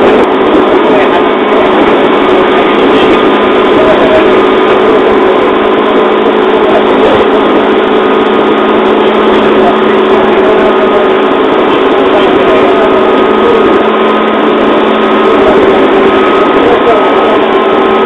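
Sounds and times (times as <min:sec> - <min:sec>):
train motor and gear hum: 0:00.0 - 0:18.0
train wheels rumbling on rail: 0:00.0 - 0:18.0.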